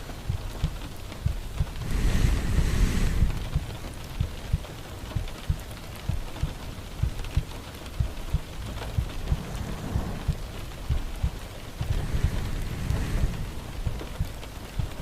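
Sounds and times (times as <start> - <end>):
slow heartbeat thumps: 0.0 - 15.0
steady rain falling: 0.0 - 15.0.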